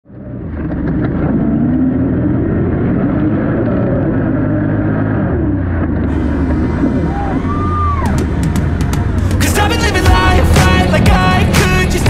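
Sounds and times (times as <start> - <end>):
atv engine running: 0.1 - 12.0.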